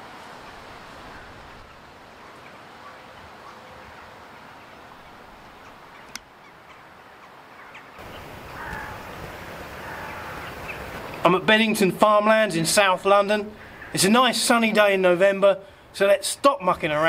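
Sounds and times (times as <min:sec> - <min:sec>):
outdoor background noise: 0:00.0 - 0:17.0
distant birds calling: 0:00.6 - 0:17.0.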